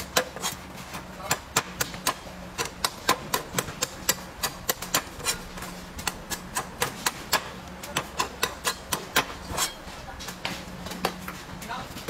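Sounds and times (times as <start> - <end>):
cleaver chopping coconut husk: 0.0 - 11.3.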